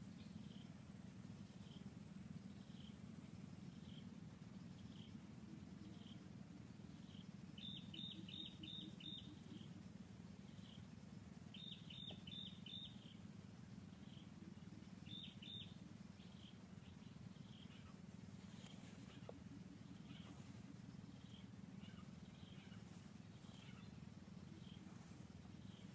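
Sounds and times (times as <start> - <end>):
low background hum: 0.0 - 25.9.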